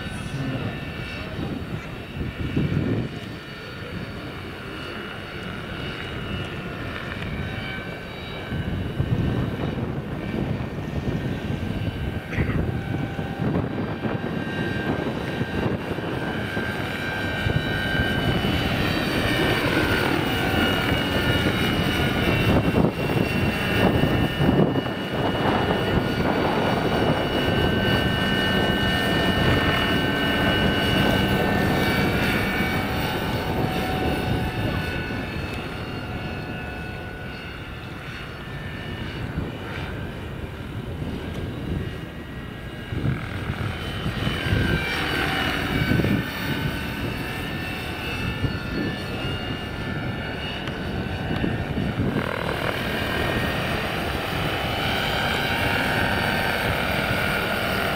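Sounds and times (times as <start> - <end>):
electric motor high whine: 0.0 - 57.9
helicopter rotors: 0.0 - 57.9
wind rumbling on microphone: 0.0 - 57.9.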